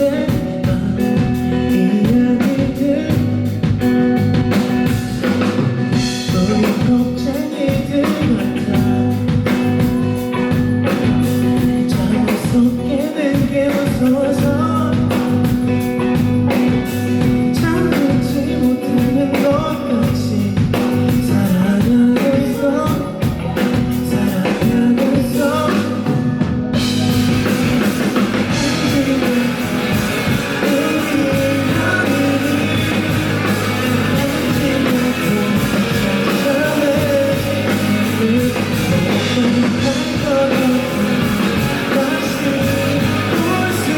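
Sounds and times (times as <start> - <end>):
person singing: 0.0 - 4.2, 6.0 - 10.6, 11.3 - 43.9
live rock band playing: 0.0 - 43.9.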